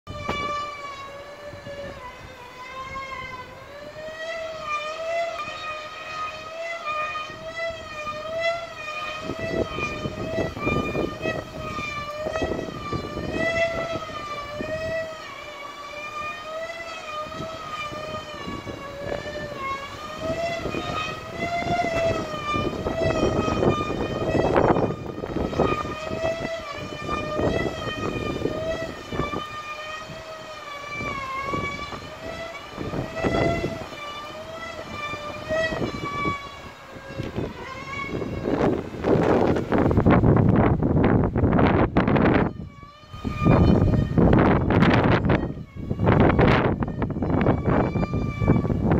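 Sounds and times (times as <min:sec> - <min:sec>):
kite hummer buzzing drone: 0:00.1 - 0:48.9
wind gusts on microphone: 0:00.1 - 0:48.9.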